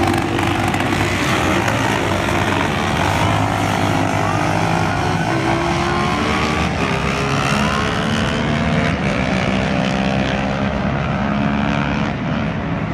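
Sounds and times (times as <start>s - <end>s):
dirt bike engines revving: 0.0s - 12.9s.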